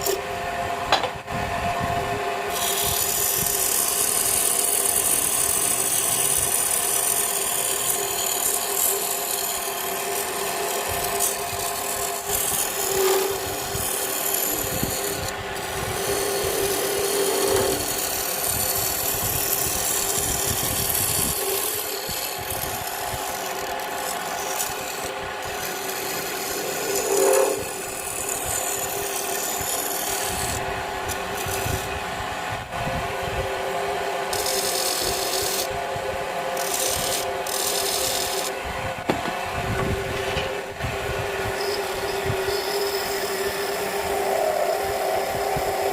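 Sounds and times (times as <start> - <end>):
tool scraping spinning wood: 0.0 - 0.3, 1.8 - 45.9
lathe motor hum: 0.0 - 45.9.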